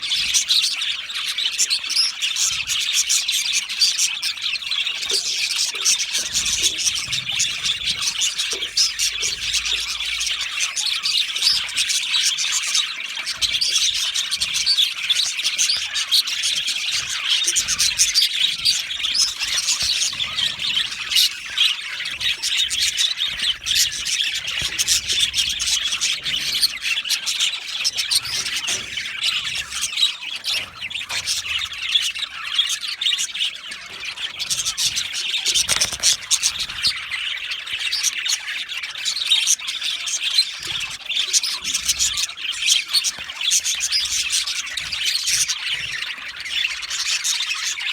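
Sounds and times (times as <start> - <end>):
bird squawks: 0.0 - 47.9
budgerigars chirping and chattering: 0.0 - 47.9.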